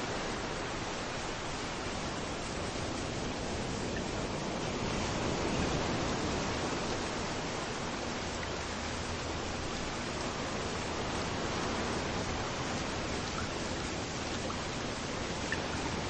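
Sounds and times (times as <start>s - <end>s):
rain falling: 0.0s - 16.0s
waves rolling on beach: 0.0s - 16.0s.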